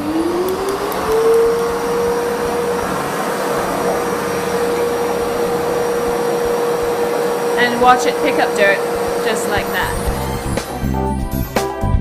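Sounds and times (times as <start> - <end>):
rushing air: 0.0 - 11.1
vacuum cleaner motor whine: 0.0 - 11.2.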